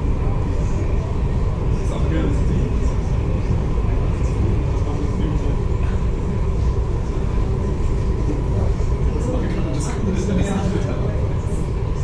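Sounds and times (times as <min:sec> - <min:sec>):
faint steady hum: 0:00.0 - 0:12.0
ferry engine rumble: 0:00.0 - 0:12.0.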